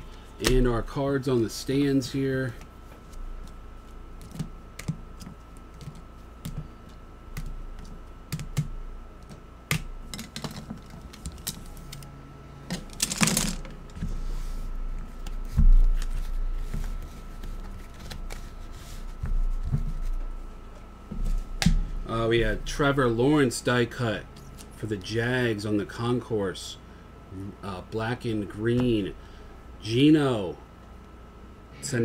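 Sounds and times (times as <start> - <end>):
faint steady whine: 0.0 - 32.0.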